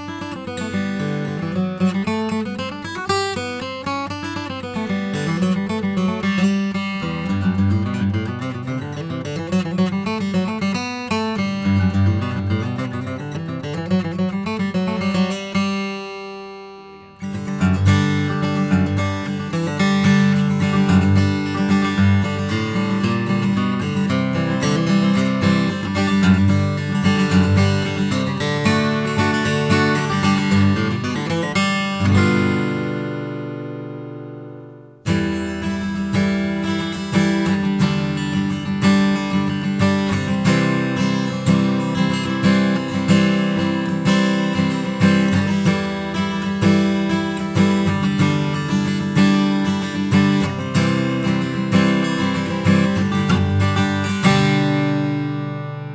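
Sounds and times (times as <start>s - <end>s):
acoustic guitar playing: 0.0s - 55.9s.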